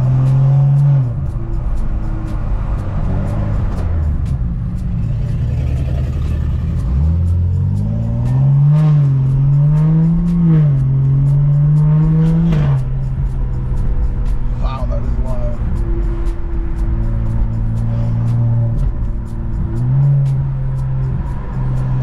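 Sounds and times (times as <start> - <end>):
car engine accelerating: 0.0 - 22.0
loud raspy exhaust: 0.0 - 22.0.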